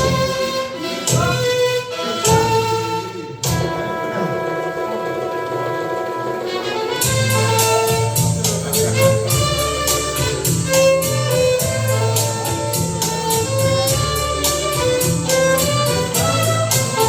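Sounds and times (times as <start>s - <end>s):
backing track with bass and beat: 0.0s - 17.0s
violin melody: 0.0s - 17.0s.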